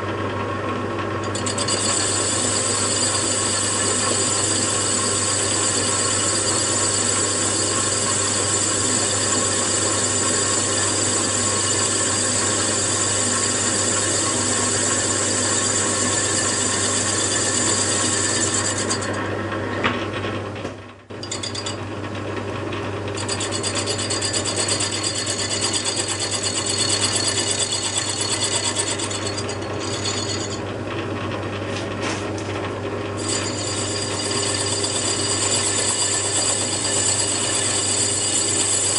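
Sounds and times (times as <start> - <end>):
metal lathe cutting: 1.2 - 19.3, 21.1 - 21.9, 23.1 - 30.7, 33.2 - 38.9.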